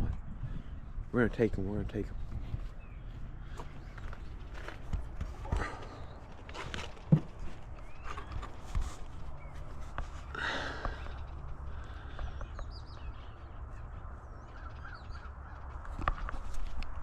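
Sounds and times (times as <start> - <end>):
wind rumble on microphone: 0.0 - 6.6, 7.2 - 17.0
small birds chirping: 0.1 - 17.0.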